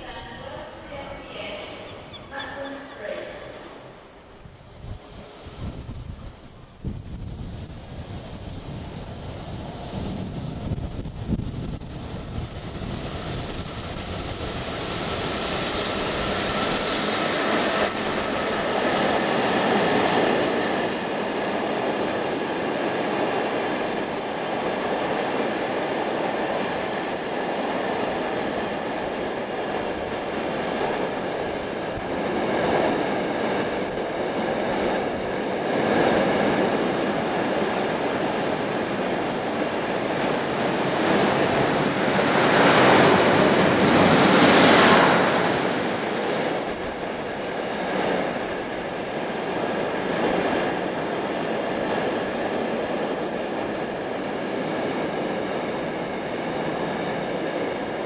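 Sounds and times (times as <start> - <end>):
passenger train passing: 0.0 - 58.0.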